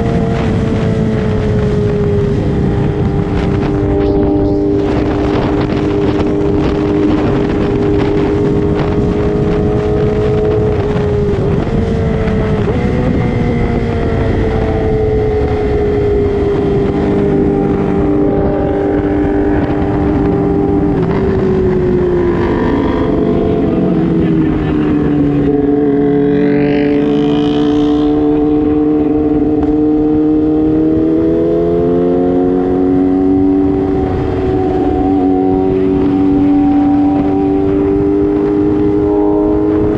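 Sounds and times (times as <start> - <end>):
motorcycle engine at high revs: 0.0 - 39.9
wind rushing: 0.0 - 39.9.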